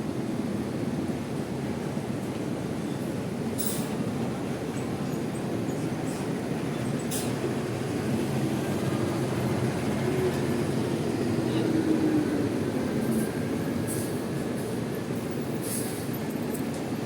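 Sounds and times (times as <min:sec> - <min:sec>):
diesel bus engines rumbling: 0:01.6 - 0:17.0.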